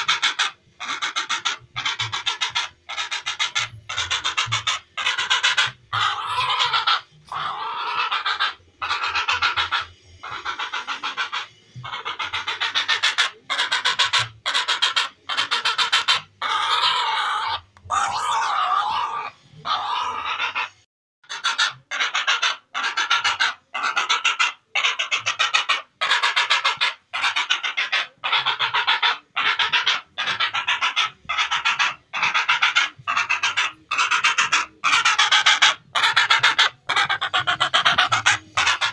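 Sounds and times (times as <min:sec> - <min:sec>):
heron croaking: 0:00.0 - 0:38.9.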